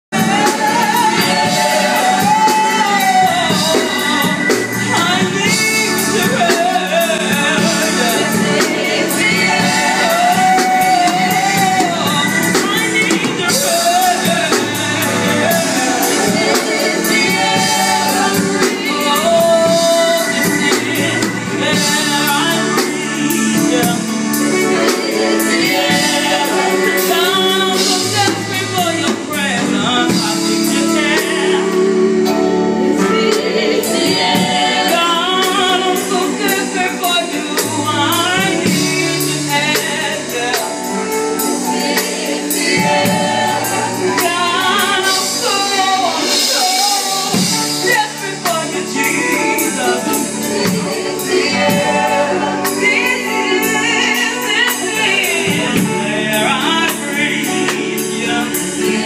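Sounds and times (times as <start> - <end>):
gospel group singing: 0.1 - 59.0.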